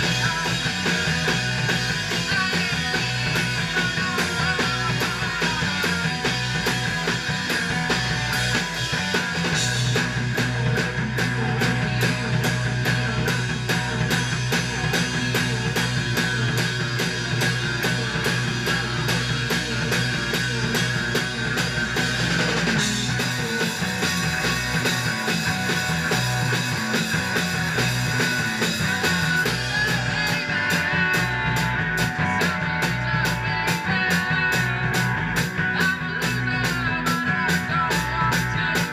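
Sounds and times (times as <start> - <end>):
distorted electric guitar: 0.0 - 38.9
drum kit: 0.0 - 38.9.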